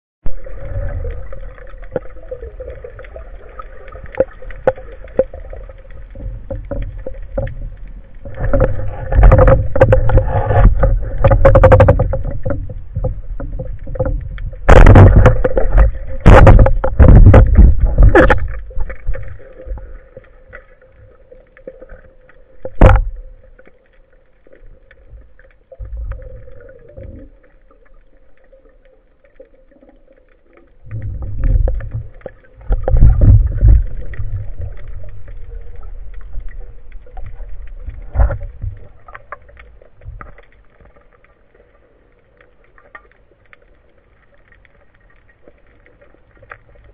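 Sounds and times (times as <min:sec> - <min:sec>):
underwater rushing water and bubbles: 0:00.2 - 0:46.9.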